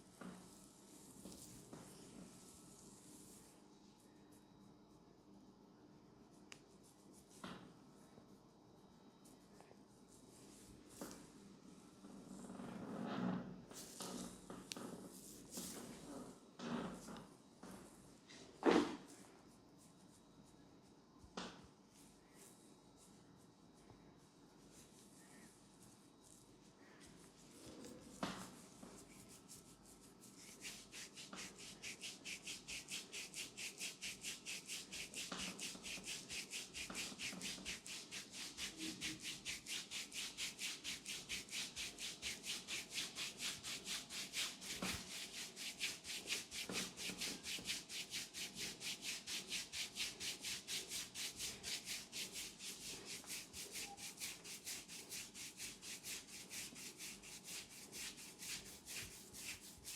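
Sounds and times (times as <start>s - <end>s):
hands rubbing in massage: 0.0s - 4.2s, 6.3s - 8.4s, 9.2s - 11.4s, 13.7s - 16.3s, 18.8s - 59.9s.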